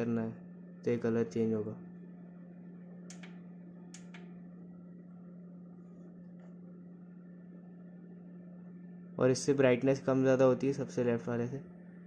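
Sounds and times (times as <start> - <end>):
computer fans humming: 0.0 - 12.0.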